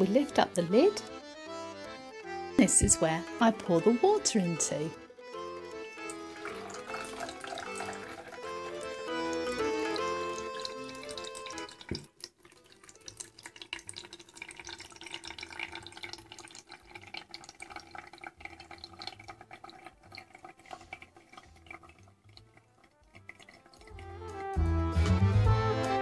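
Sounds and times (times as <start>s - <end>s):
water dripping into a jug: 2.6s - 24.7s.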